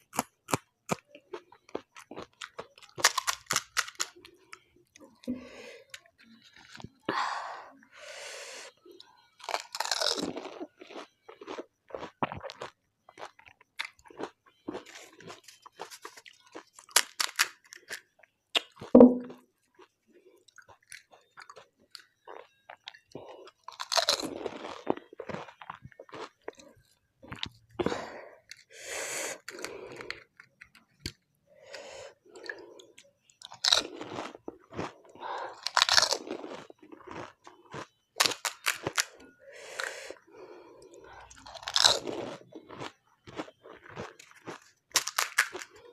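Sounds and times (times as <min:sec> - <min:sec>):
crunching and chewing: 0:00.0 - 0:07.1, 0:09.0 - 0:28.7, 0:29.3 - 0:45.9.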